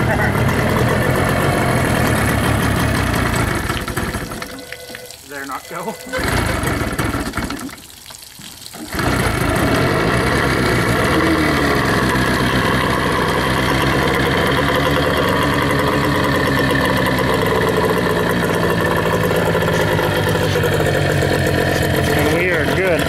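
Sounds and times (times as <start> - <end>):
outboard motor starting and running: 0.0 - 7.9, 8.7 - 23.0.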